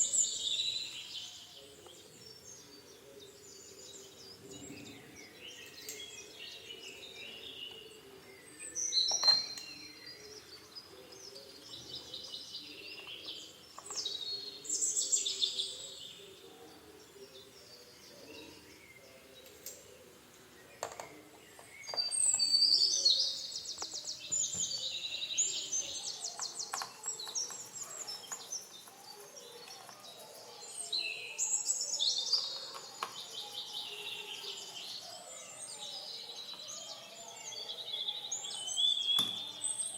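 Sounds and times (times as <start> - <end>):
birds chirping and trilling: 0.0 - 39.9
faint steady background noise: 0.0 - 39.9.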